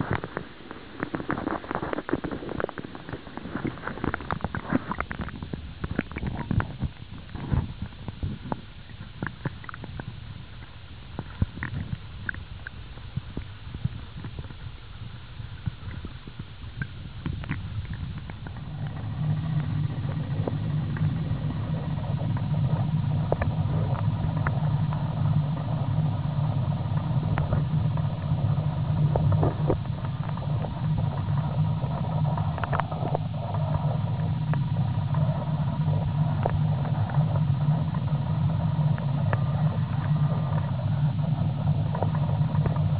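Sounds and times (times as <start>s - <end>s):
small clicks and ticks: 0.0s - 14.7s, 15.5s - 42.9s
underwater river current rumbling: 0.0s - 42.9s.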